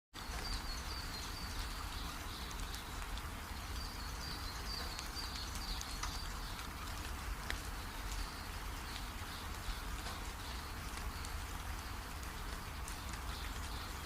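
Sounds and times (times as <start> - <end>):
bird chirping: 0.2 - 6.9, 7.8 - 14.0
constant low rumble: 0.2 - 14.0
steady rain falling: 0.2 - 14.0.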